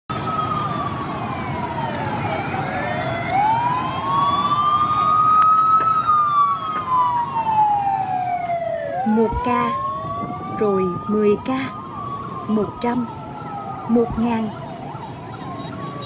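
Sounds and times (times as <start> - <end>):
street traffic: 0.0 - 16.0
ambulance siren wailing: 0.1 - 16.0.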